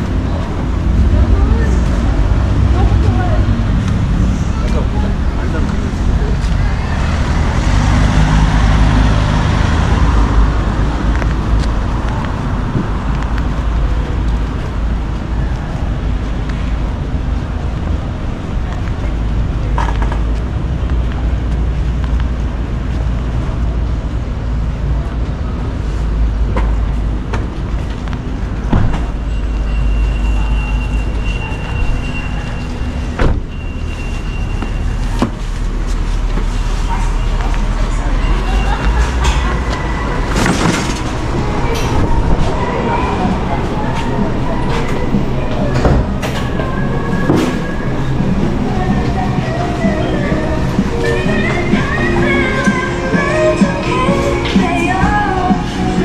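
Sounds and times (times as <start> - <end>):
vehicle engine passing: 0.0 - 28.7, 30.4 - 56.0
traffic rumble: 0.0 - 56.0.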